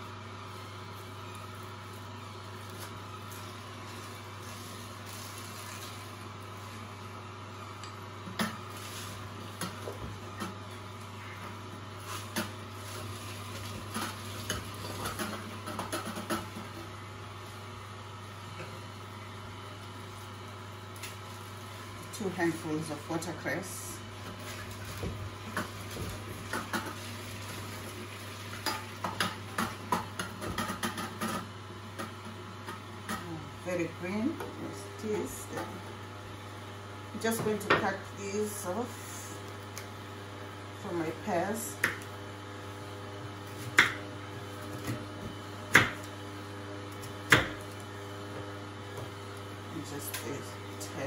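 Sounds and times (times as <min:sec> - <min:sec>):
juicer humming: 0:00.0 - 0:51.0.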